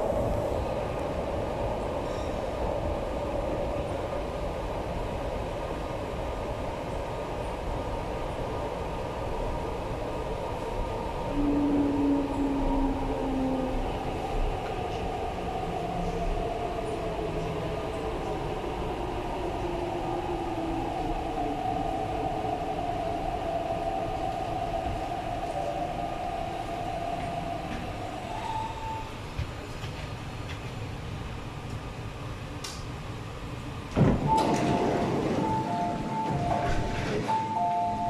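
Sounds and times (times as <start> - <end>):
train running rumble: 0.0 - 38.0.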